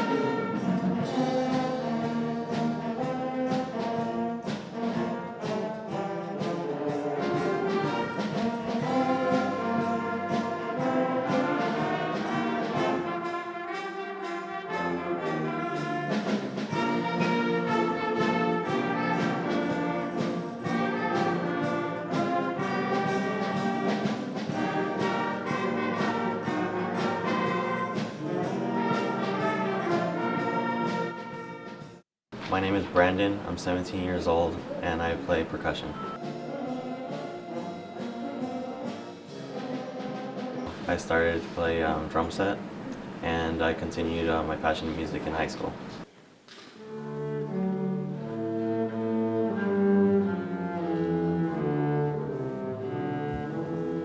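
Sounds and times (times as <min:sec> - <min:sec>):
brass band music: 0:00.0 - 0:54.0
percussion strokes: 0:00.0 - 0:54.0.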